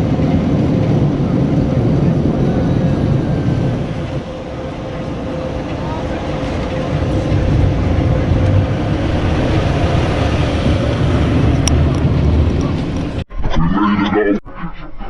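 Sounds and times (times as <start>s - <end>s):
car wash machinery roaring: 0.0s - 13.2s.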